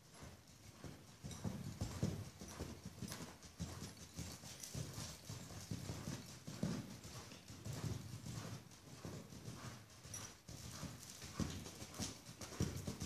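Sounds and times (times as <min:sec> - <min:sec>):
hoofbeats on soft ground: 0:00.0 - 0:13.0.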